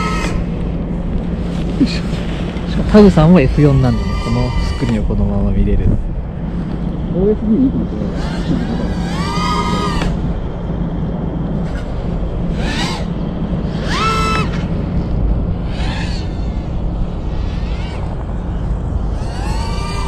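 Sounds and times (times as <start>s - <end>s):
quadcopter motors whining: 0.0s - 20.0s
wind rumble on microphone: 0.0s - 20.0s.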